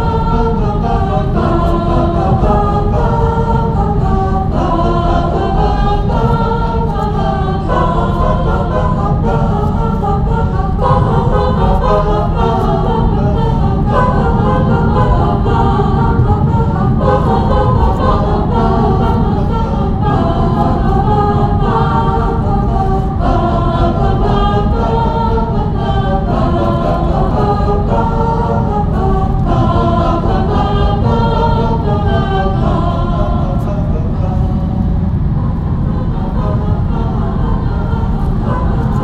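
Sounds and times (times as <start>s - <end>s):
choir singing held chords: 0.0s - 39.0s
low rumble: 0.0s - 39.0s.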